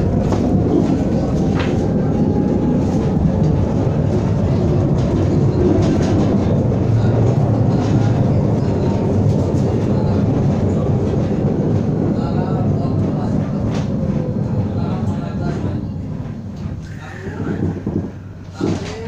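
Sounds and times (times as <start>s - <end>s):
tram rumbling on rails: 0.0s - 19.0s
wheels clattering on track: 0.0s - 19.0s.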